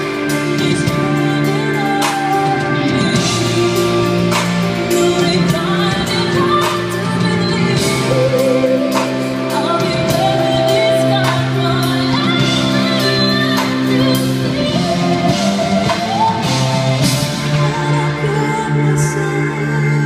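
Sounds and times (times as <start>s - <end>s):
live pop band accompaniment: 0.0s - 20.0s
woman singing: 0.0s - 20.0s.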